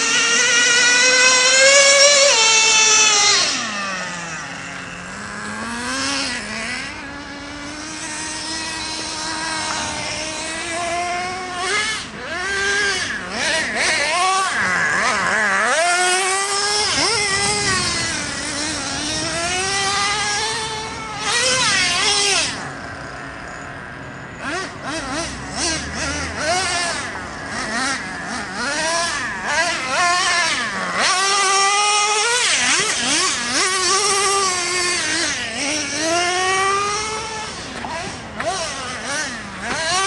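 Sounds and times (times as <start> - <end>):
rc truck engine whining: 0.0 - 40.0.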